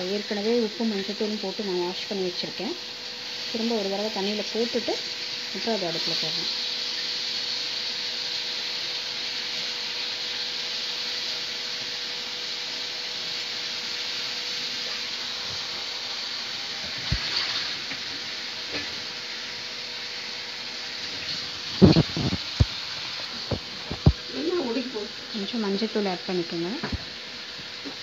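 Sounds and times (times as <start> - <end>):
prawns sizzling in a pan: 0.0 - 28.0.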